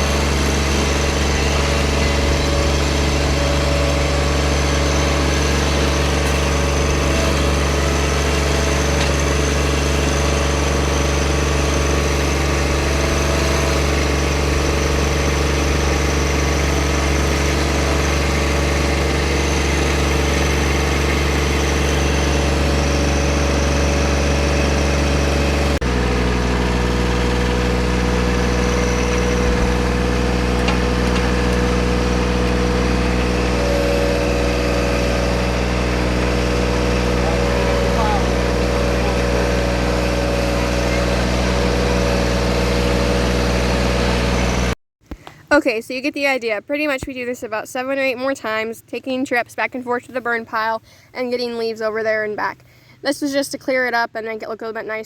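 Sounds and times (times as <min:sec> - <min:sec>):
tractor engine running: 0:00.0 - 0:45.8.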